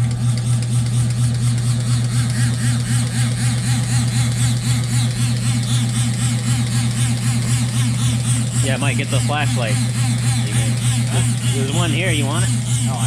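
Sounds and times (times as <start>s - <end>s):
electric pump motor humming: 0.0s - 13.0s.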